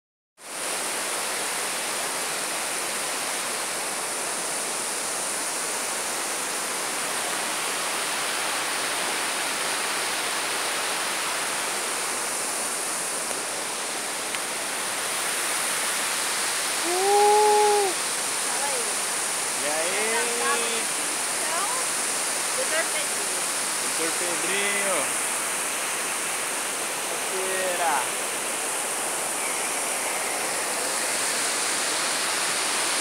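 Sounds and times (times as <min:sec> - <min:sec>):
river rapids rushing over rock: 0:00.4 - 0:33.0.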